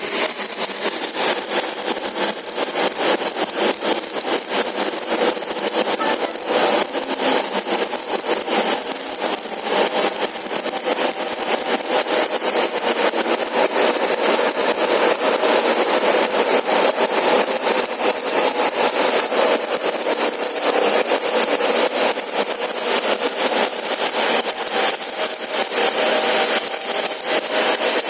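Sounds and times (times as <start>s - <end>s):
arc welding crackling sizzle: 0.0s - 28.0s.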